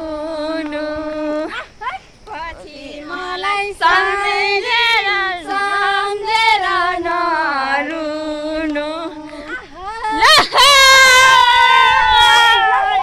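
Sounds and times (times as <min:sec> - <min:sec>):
person singing unaccompanied: 0:00.0 - 0:12.6.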